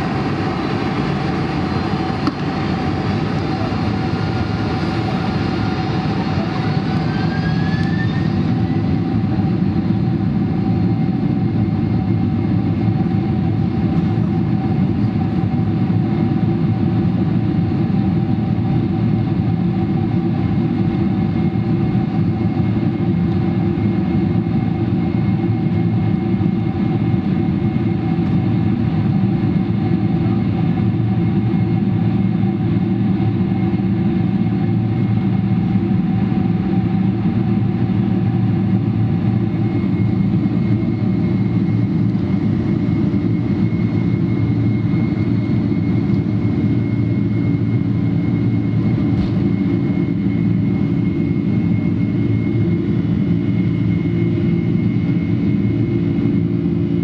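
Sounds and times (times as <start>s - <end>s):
faint high engine whine: 0.0s - 57.0s
jet engines deep rumble: 0.0s - 57.0s.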